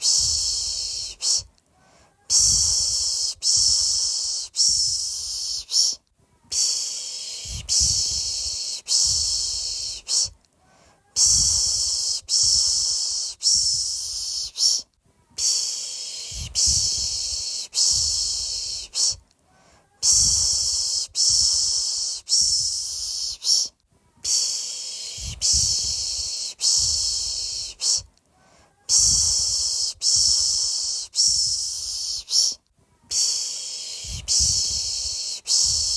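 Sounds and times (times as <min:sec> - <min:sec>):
person shushing: 0:00.0 - 0:10.3, 0:10.9 - 0:19.2, 0:19.8 - 0:28.1, 0:28.7 - 0:35.9.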